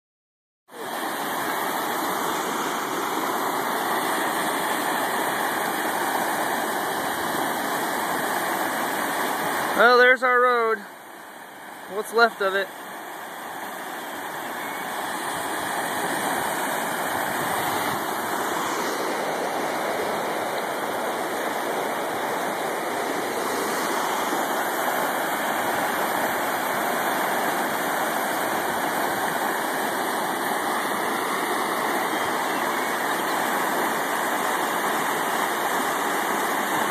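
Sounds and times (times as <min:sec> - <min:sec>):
floodwater rushing: 0:00.7 - 0:36.9.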